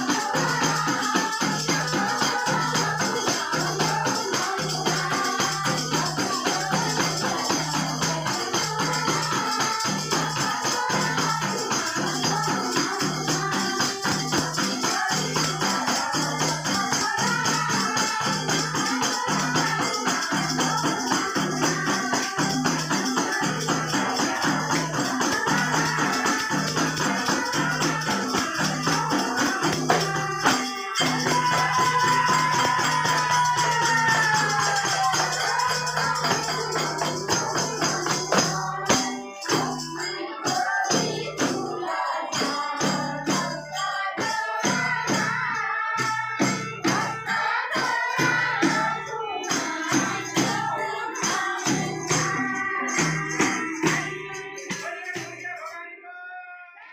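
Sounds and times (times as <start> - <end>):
shaken percussion: 0.0 - 55.8
sharp percussion beats: 0.0 - 55.8
devotional singing: 0.0 - 56.9.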